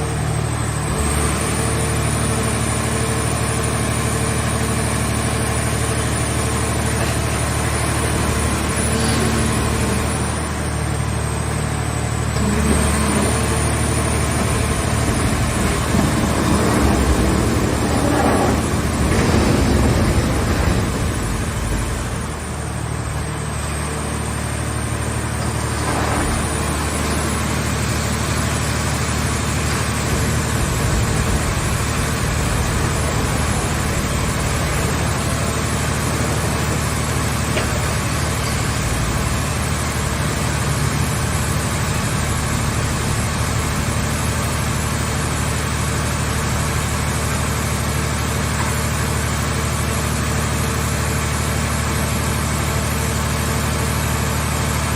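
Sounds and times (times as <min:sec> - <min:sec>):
hydraulic power unit drone: 0:00.0 - 0:54.9.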